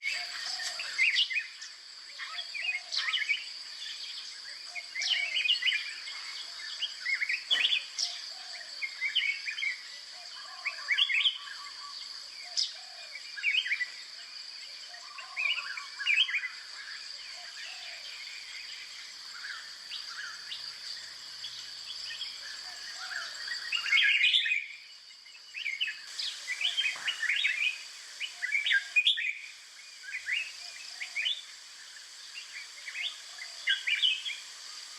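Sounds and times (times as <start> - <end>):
birds chirping: 0.0 - 14.2, 14.8 - 34.9.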